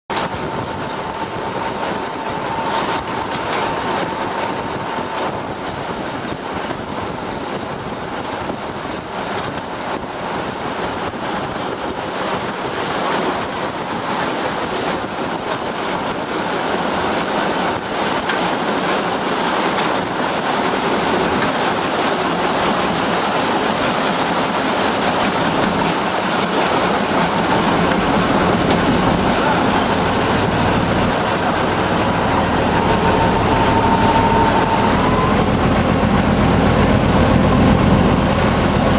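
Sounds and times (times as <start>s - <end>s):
diesel locomotive running: 0.0s - 38.9s
wheels clattering over rail joints: 0.1s - 38.9s.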